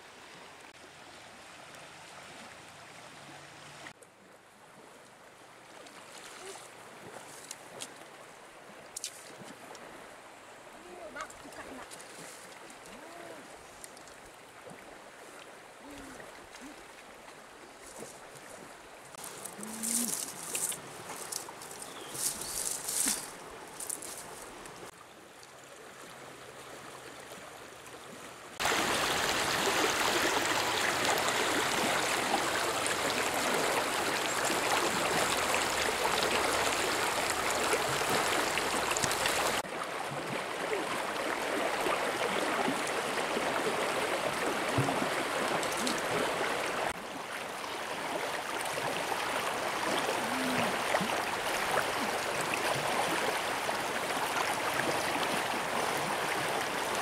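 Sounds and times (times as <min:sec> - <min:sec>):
river water flowing and rippling: 0:00.0 - 0:57.0.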